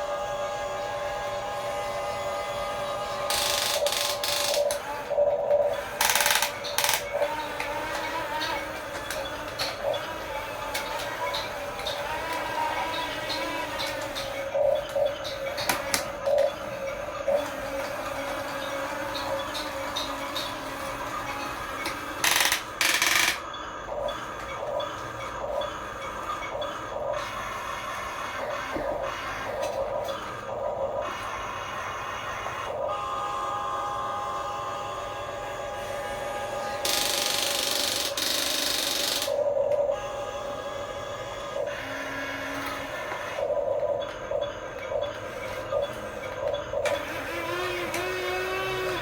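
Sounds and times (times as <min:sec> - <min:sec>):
small electric motors running: 0:00.0 - 0:49.0.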